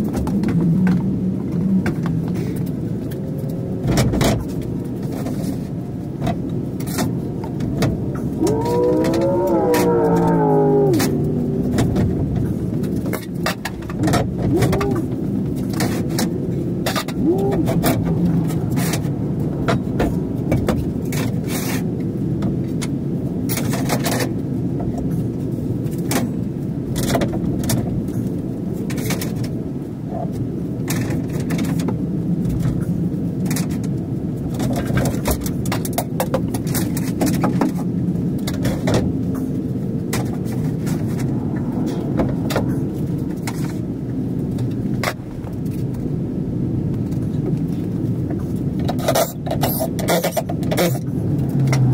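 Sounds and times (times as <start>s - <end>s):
steady low hum: 0.0s - 35.7s, 36.6s - 51.9s.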